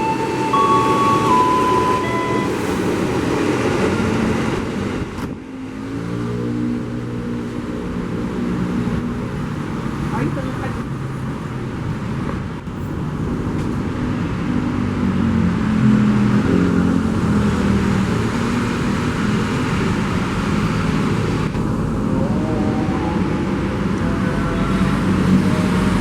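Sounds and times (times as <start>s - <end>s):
vehicle noise: 0.0s - 26.0s.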